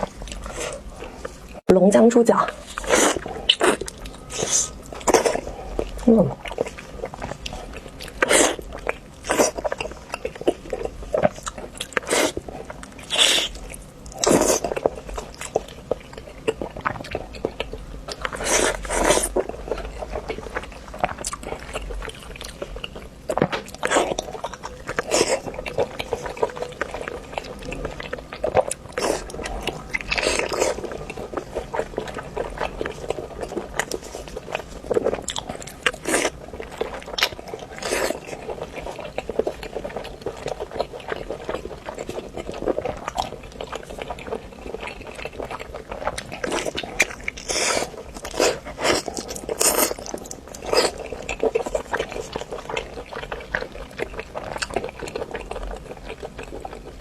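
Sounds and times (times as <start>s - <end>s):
person biting and chewing: 2.6s - 57.0s.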